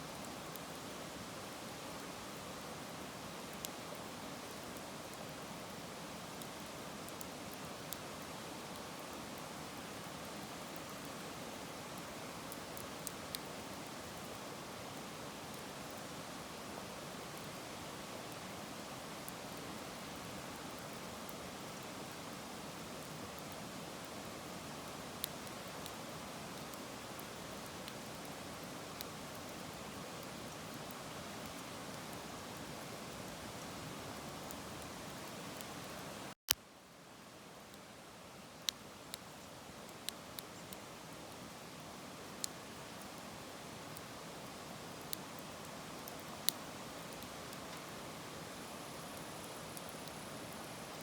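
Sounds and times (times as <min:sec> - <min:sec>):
wood fire hissing: 0:00.1 - 0:36.4, 0:38.4 - 0:51.0
fire crackling: 0:03.4 - 0:16.2, 0:16.8 - 0:36.1, 0:38.5 - 0:51.0.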